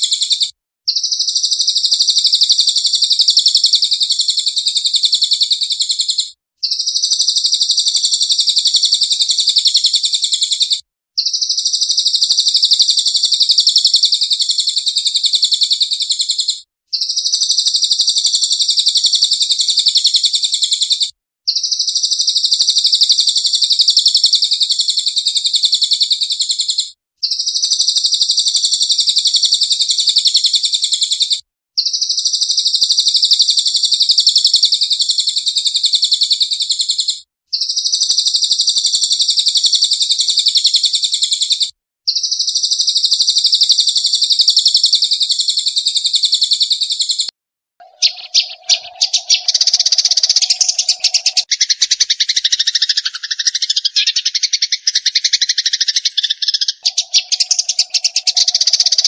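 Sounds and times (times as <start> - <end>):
songbird chattering trill: 0.0 - 36.9, 42.1 - 59.0.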